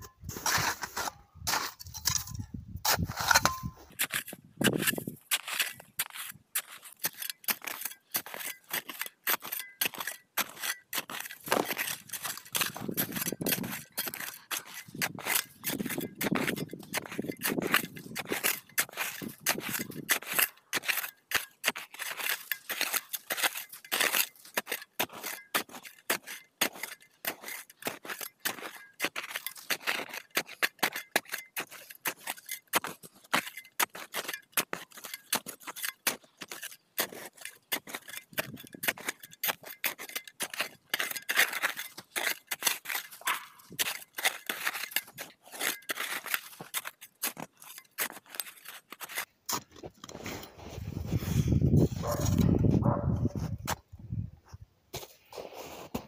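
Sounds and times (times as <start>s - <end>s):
shovel scraping packed snow: 0.2s - 53.8s, 54.9s - 56.0s.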